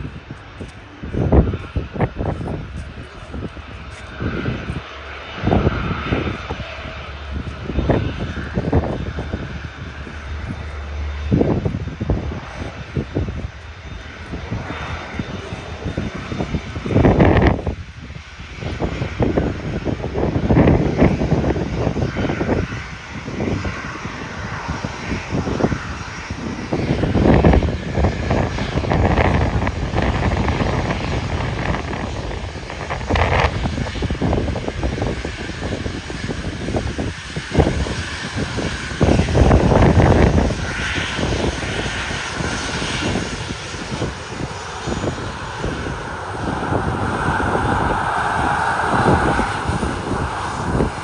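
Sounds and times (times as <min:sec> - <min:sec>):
jet engines roaring on takeoff: 0:00.0 - 0:51.0.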